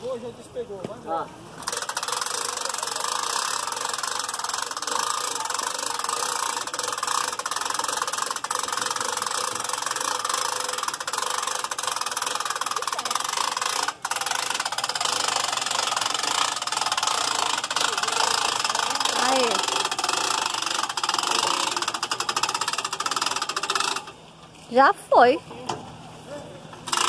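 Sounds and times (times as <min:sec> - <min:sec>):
vehicle engine idling: 0:01.6 - 0:24.6.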